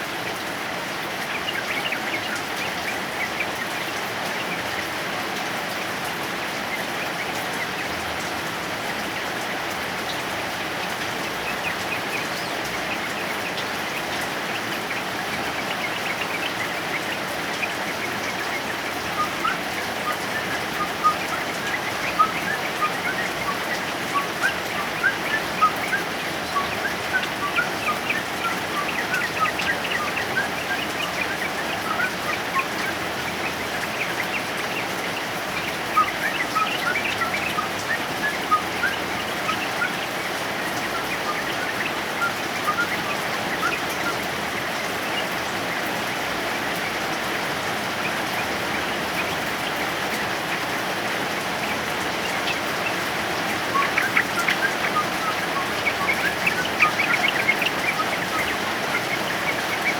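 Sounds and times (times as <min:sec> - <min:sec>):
bird chirping: 0:00.0 - 0:59.9
heavy rain: 0:00.0 - 0:59.9.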